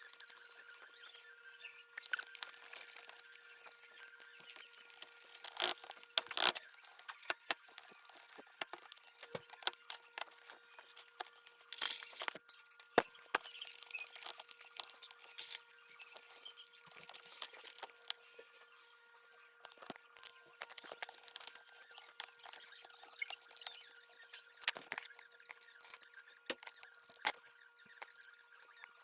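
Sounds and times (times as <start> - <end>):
small parts clicking and tapping: 0.0 - 1.1, 2.0 - 18.2, 19.6 - 29.0.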